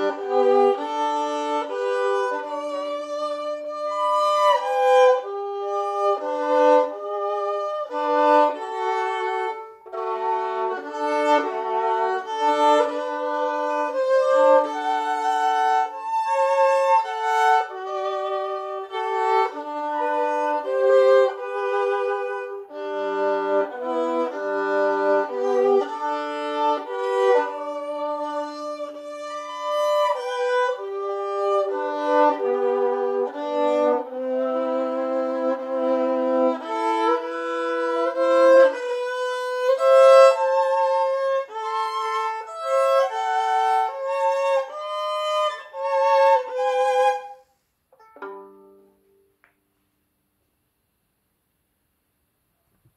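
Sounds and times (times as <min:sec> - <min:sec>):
solo violin melody: 0:00.0 - 0:49.3.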